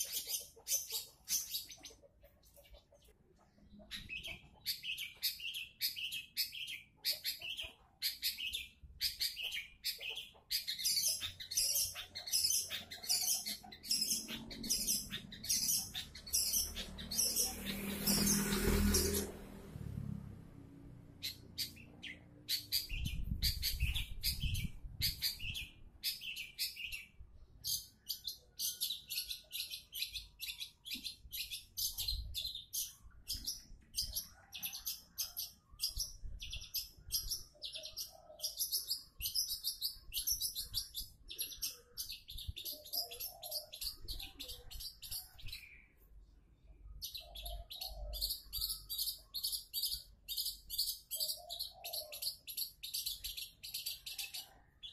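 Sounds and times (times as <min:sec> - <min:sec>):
bird singing scratchy chatter: 0:00.0 - 0:19.6, 0:21.2 - 0:54.9.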